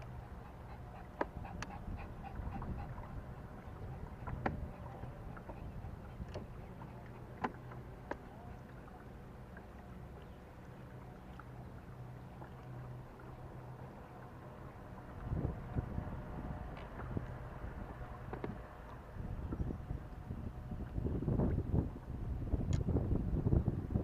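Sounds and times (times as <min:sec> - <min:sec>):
boat engine hum: 0:00.0 - 0:24.0.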